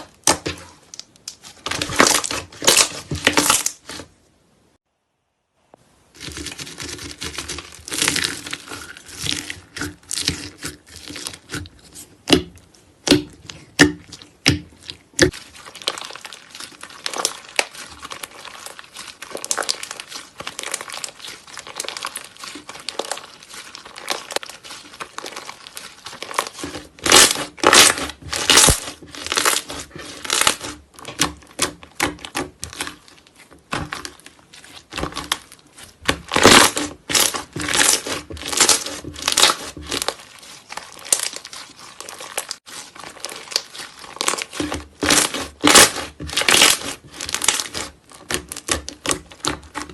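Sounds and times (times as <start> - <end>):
slime crackling and popping: 0.0 - 4.0, 6.1 - 49.9.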